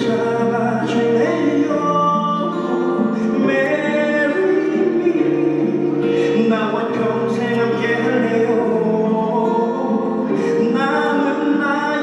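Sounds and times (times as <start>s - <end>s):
held chord accompaniment: 0.0s - 12.0s
man singing into microphone: 0.0s - 12.0s.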